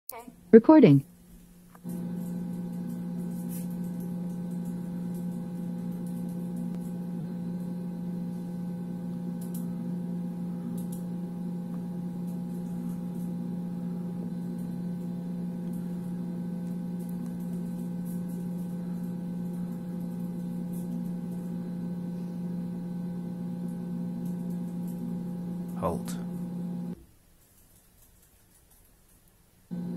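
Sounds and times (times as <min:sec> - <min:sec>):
low motor drone: 0:01.9 - 0:27.0.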